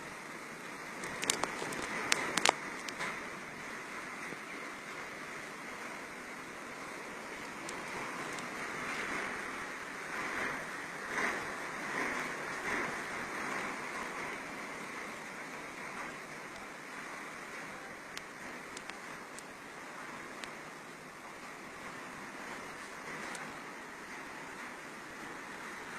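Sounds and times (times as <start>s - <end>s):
surf: 0.0s - 25.9s.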